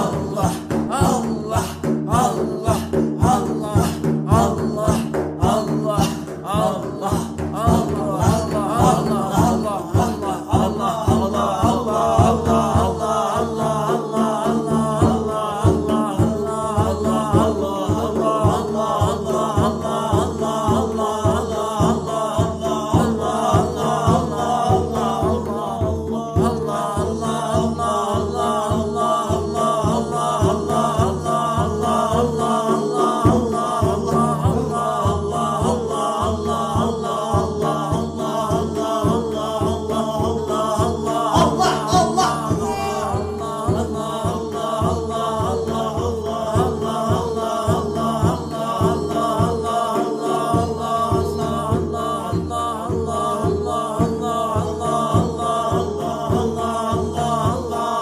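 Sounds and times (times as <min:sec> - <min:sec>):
pulsing low beat: 0:00.0 - 0:58.0
voices chanting rhythmically: 0:00.0 - 0:58.0.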